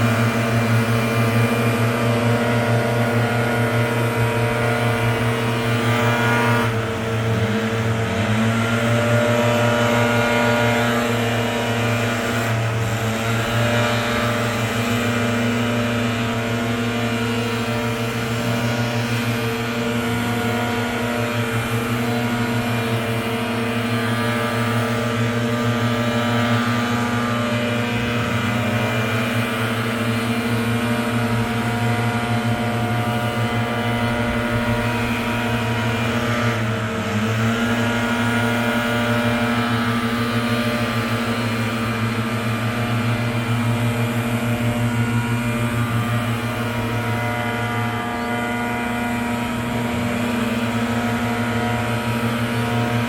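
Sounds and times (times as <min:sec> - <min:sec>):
leaf blower engine running: 0:00.0 - 0:53.0.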